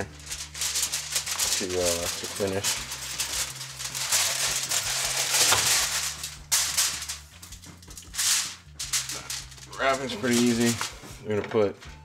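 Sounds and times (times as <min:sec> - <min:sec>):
aluminium foil crinkling: 0:00.0 - 0:11.1.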